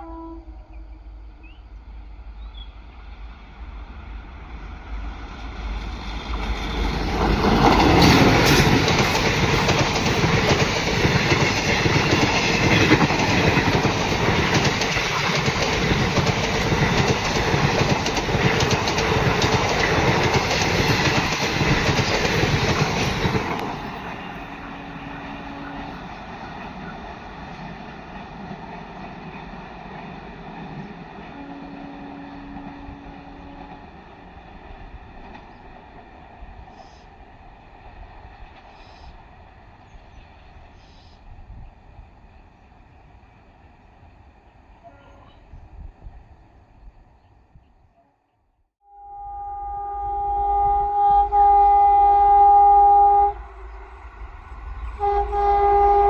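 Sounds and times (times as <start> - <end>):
train passing: 0.0 - 47.6, 48.9 - 56.0.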